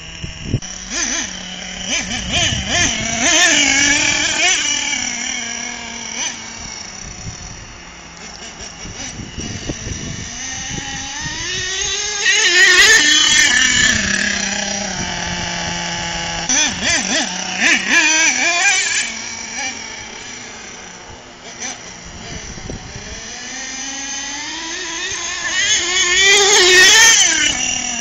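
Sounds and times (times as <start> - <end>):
model engine revving: 0.0 - 28.0.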